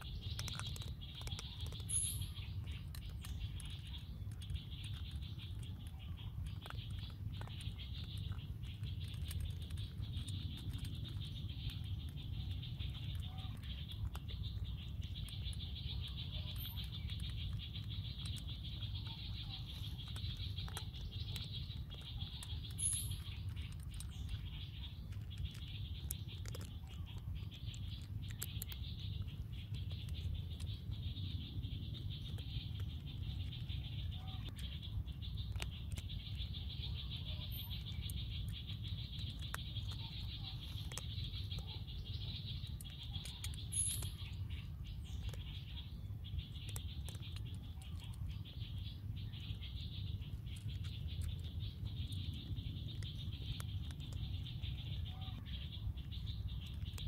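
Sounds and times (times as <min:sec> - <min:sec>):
faint clicks and taps: 0:00.0 - 0:55.0.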